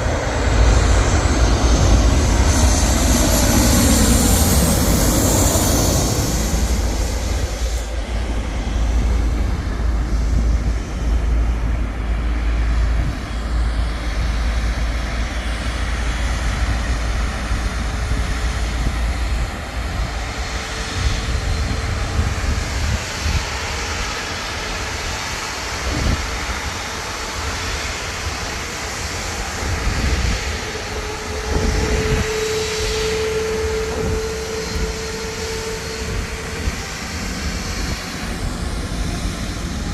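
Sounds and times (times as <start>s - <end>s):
jet engines rumbling: 0.0s - 39.9s
steady whine: 0.0s - 39.9s.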